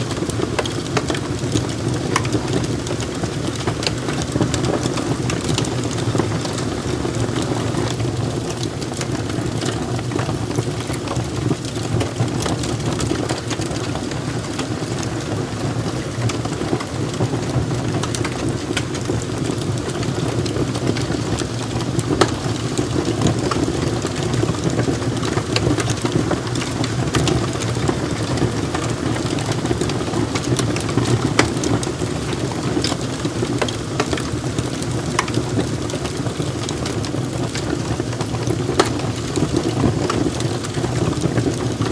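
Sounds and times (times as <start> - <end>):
fire flames rushing: 0.0 - 41.9
logs crackling and popping: 0.0 - 41.9.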